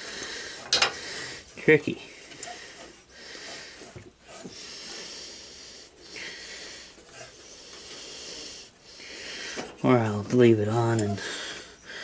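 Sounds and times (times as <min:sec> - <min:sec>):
person breathing hard through nose: 0:00.0 - 0:09.8, 0:11.2 - 0:12.0.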